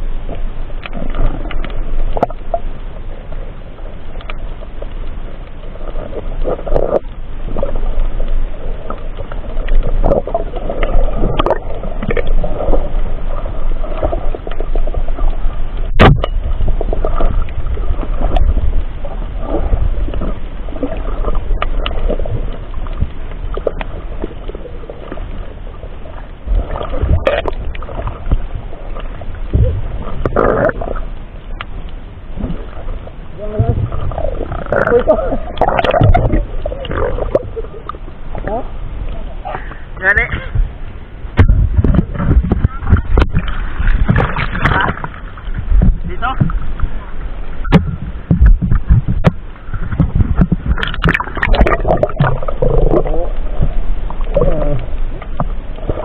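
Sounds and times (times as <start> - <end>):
low rumble: 0.0 - 56.0
underwater rushing and gurgling: 0.0 - 56.0.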